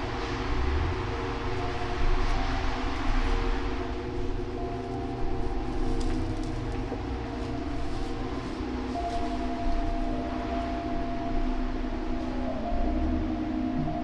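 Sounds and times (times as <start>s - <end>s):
held droning tones: 0.0s - 14.0s
low rumble: 0.0s - 14.0s.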